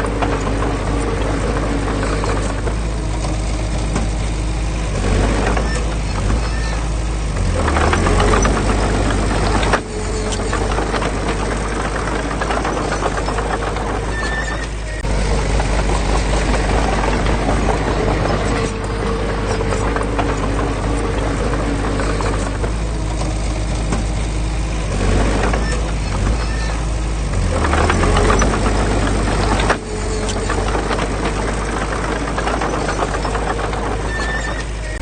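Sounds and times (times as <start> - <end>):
heavy diesel engine rumbling: 0.0 - 35.0
metallic rattling and clanking: 0.0 - 35.0.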